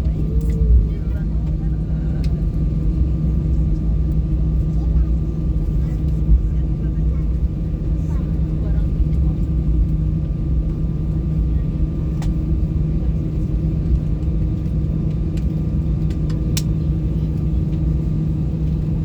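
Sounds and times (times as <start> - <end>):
aircraft cabin rumble and hum: 0.0 - 19.0.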